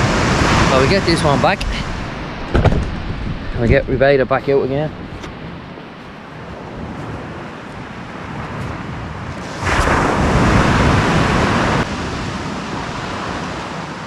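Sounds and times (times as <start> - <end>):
loud rush of noise: 0.0 - 7.7, 8.3 - 14.0
sea waves washing on beach: 0.0 - 14.0
wind on microphone: 0.0 - 14.0.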